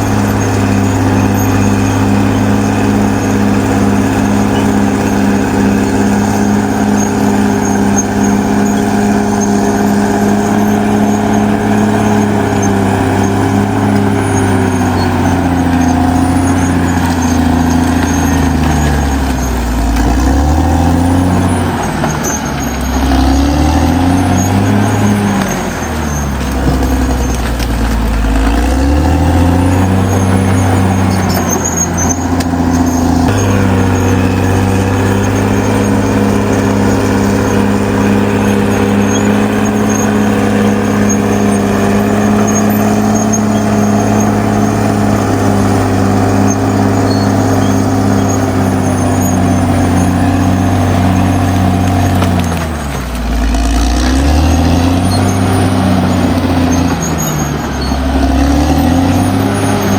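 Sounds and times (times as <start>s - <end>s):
bulldozer diesel engine lugging: 0.0s - 59.9s.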